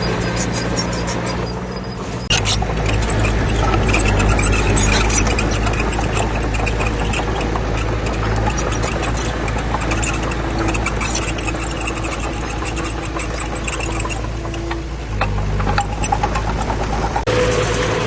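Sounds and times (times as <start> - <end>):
heavy diesel engine running: 0.0 - 18.0
small clicks and rattles: 2.3 - 17.3.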